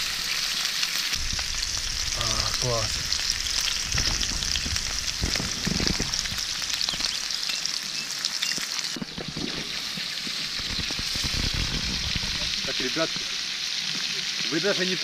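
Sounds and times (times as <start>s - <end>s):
pork sizzling in a pan: 0.0s - 15.0s
fat crackling pops: 1.1s - 7.5s, 8.2s - 14.1s.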